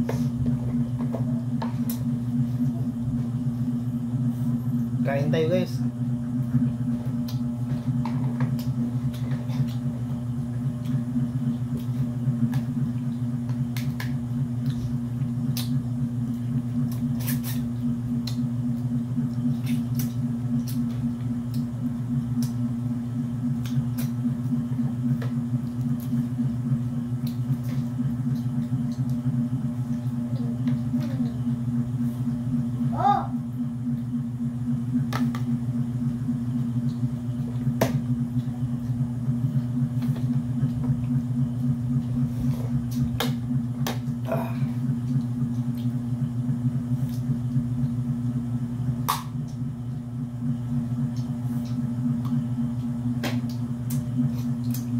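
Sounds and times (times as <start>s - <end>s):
low motor hum: 0.0s - 54.9s.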